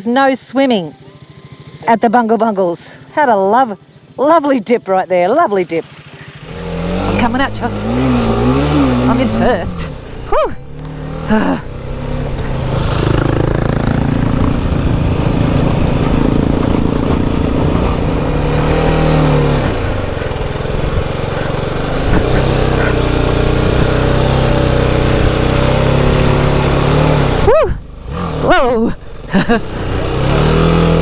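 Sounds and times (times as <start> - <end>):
motorcycle engine revving: 5.7 - 31.0.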